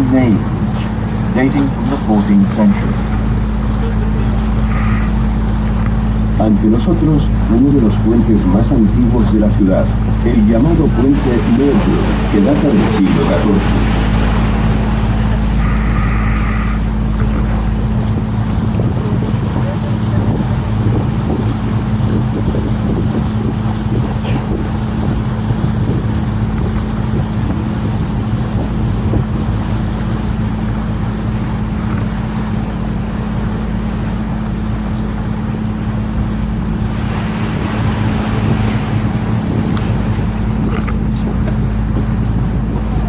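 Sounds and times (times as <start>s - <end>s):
boat engine droning: 0.0s - 43.0s
wind on microphone: 0.0s - 43.0s.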